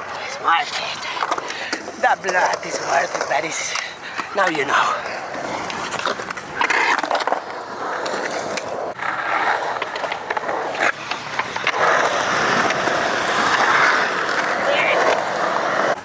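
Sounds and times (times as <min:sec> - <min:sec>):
skateboard clacks: 0:00.0 - 0:16.0
skateboard wheels rolling on concrete: 0:00.0 - 0:16.0.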